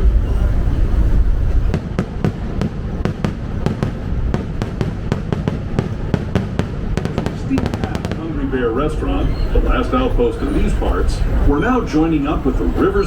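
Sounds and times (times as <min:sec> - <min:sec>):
fireworks bangs and crackles: 0:00.0 - 0:11.4
low rumble of moving train: 0:00.0 - 0:13.0.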